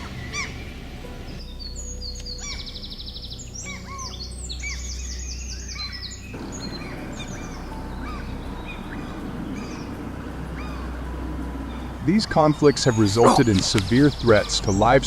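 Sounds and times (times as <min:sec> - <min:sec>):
bird trill: 0:00.0 - 0:15.0
birds chirping and calling: 0:00.0 - 0:15.0
steady low hum: 0:00.0 - 0:15.0.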